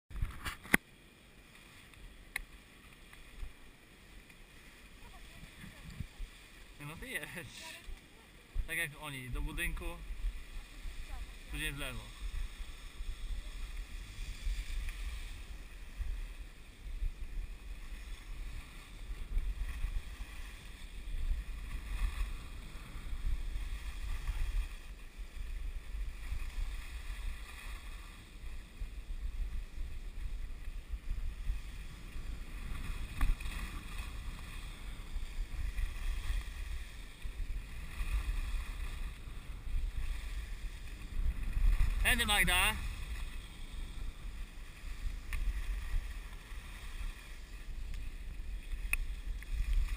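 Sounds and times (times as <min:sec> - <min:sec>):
wind rumbling on microphone: 0:00.1 - 0:00.8, 0:01.8 - 0:49.9
skis scraping over snow: 0:02.5 - 0:49.9.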